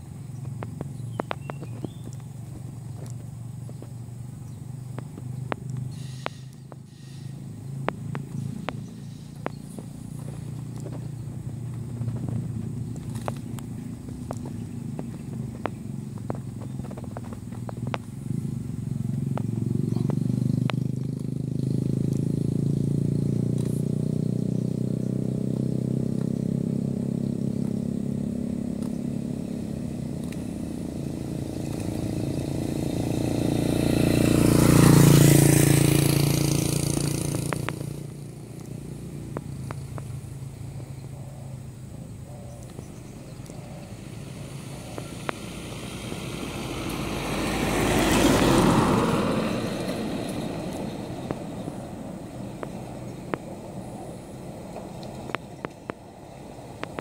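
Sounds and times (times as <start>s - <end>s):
vehicle engine passing by: 0.0s - 57.0s.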